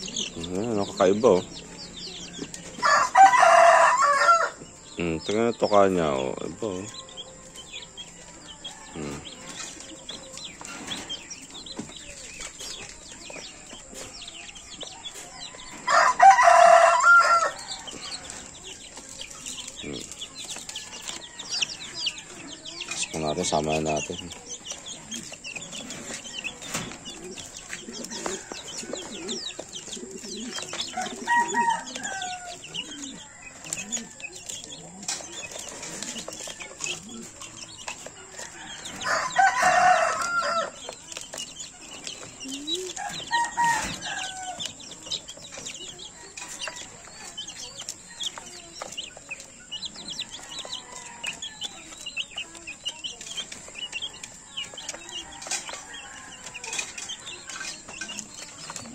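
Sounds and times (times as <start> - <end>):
chicken calls: 0.0 - 58.9
chicks peeping: 0.0 - 58.9.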